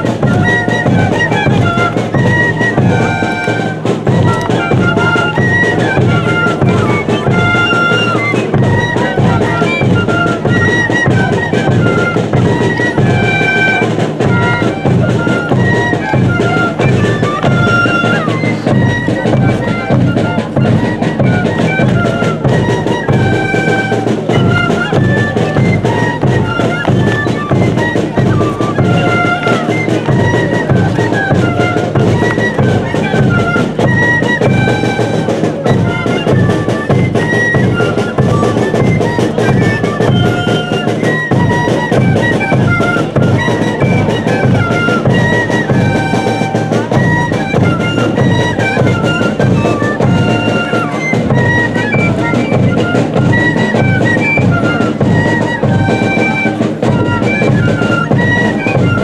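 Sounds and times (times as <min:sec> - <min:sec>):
high woodwind melody: 0:00.0 - 0:59.0.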